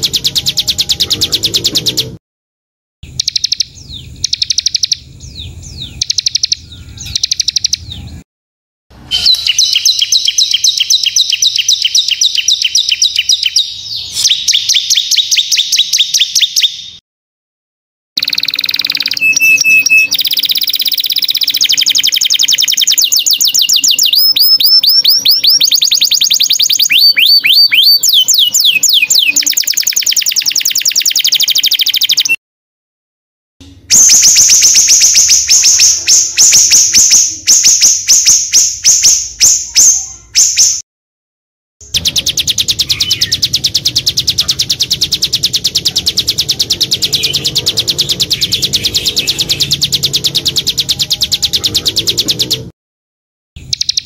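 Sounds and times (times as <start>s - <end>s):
songbirds chirping and trilling: 0.0s - 2.2s, 3.0s - 8.2s, 9.0s - 17.0s, 18.2s - 32.4s, 33.7s - 40.8s, 41.8s - 52.7s, 53.6s - 54.0s.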